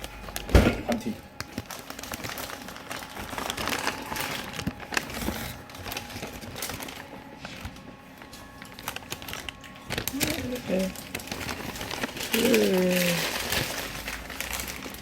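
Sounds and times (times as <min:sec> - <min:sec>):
wrapping crinkling and rustling: 0:00.0 - 0:15.0.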